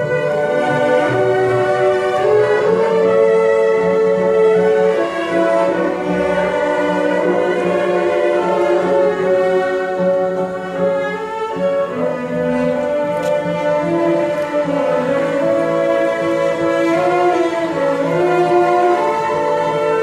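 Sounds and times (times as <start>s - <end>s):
orchestra bowed strings: 0.0s - 20.0s.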